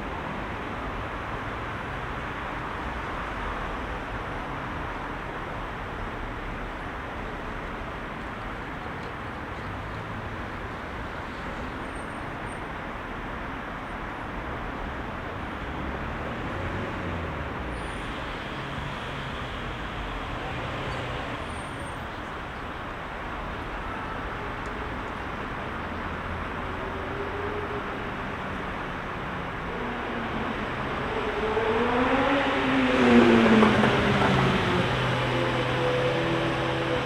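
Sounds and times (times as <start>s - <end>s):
heavy city traffic rumble: 0.0s - 37.0s.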